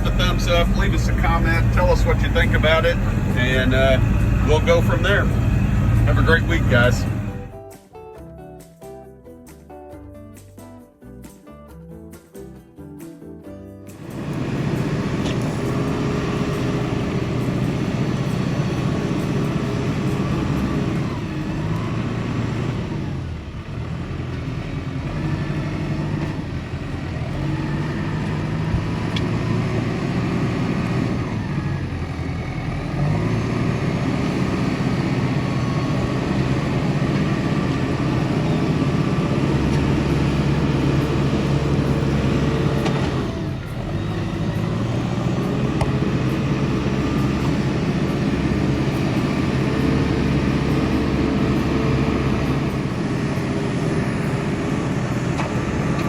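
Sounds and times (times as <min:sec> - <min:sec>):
tractor diesel engine under load: 0:00.0 - 0:07.6, 0:13.9 - 0:56.0.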